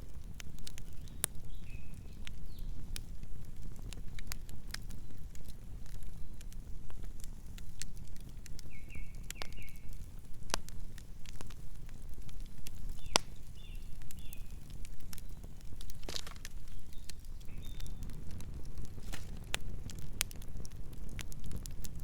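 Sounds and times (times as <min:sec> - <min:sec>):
campfire crackling and popping: 0:00.0 - 0:22.0
low fire rumble: 0:00.0 - 0:22.0.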